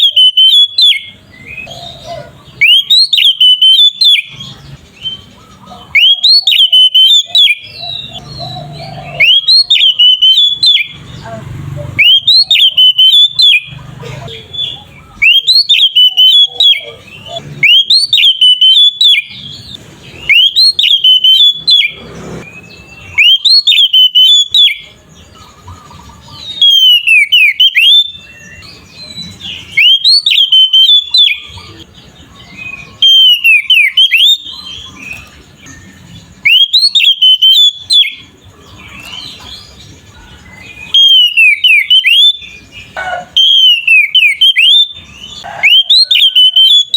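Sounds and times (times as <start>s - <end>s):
bird singing whistled phrases: 0.0s - 46.9s.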